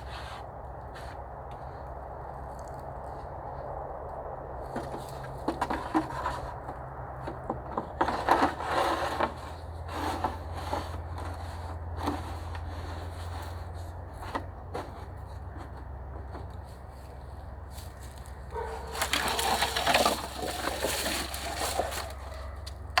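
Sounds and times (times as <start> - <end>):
wooden sticks scraping and knocking: 0.0 - 3.8, 4.4 - 23.0.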